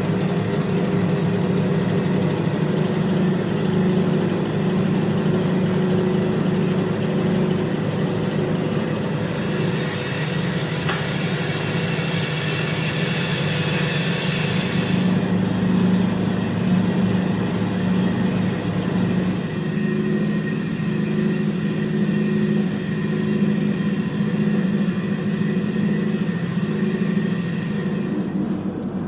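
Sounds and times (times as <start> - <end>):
woodworking machinery humming: 0.0 - 29.0.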